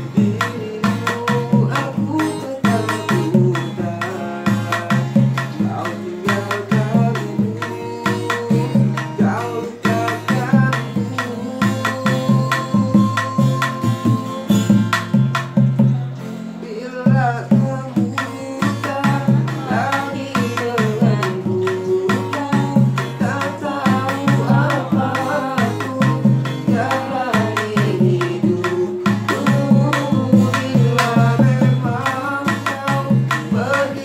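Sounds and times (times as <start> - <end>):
men singing: 0.0 - 15.5, 16.1 - 34.0
acoustic guitar strumming: 0.0 - 34.0.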